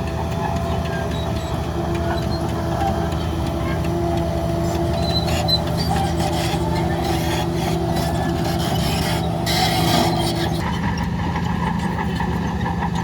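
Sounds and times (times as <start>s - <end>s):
diesel machinery running: 0.0s - 13.0s.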